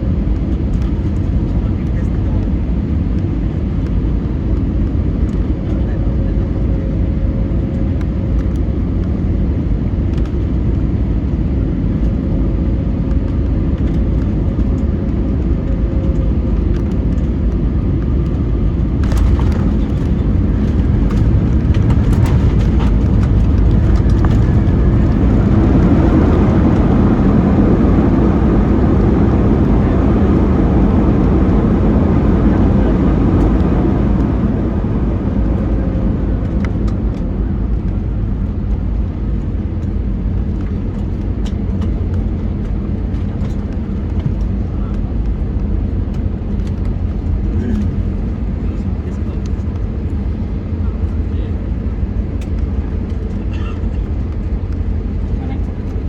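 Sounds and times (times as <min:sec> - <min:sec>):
airplane cabin noise: 0:00.0 - 0:56.0
jet engine roar: 0:00.0 - 0:56.0.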